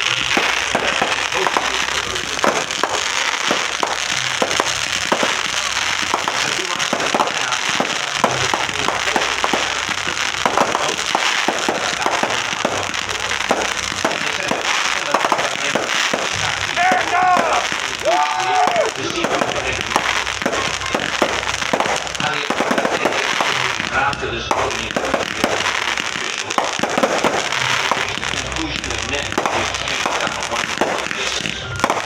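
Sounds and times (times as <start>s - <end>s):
fireworks popping and crackling: 0.0s - 32.0s.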